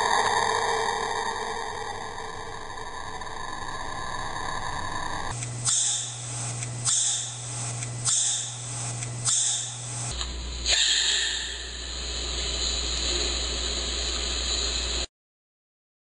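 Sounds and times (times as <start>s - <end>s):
low hum: 0.0s - 15.1s.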